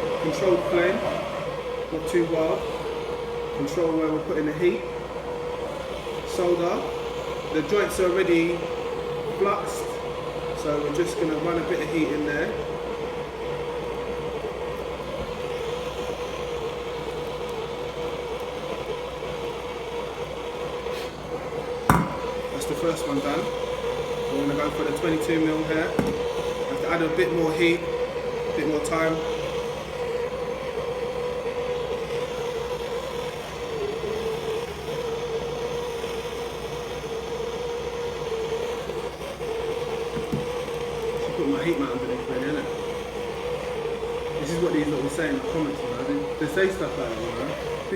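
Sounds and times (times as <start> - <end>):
blowtorch flame hissing: 0.0 - 47.9.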